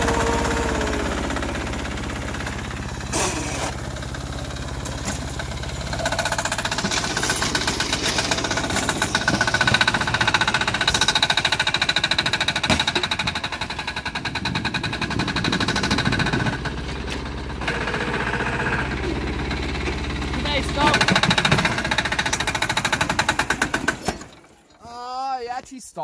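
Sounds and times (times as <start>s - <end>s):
small diesel engine running: 0.0s - 24.7s.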